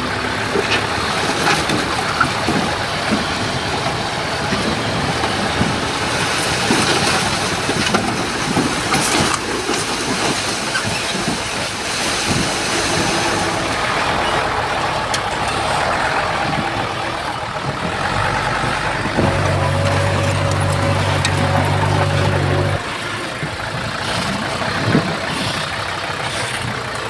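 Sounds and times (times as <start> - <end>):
diesel engine running: 0.0 - 27.0
steel tracks clanking: 0.2 - 27.0.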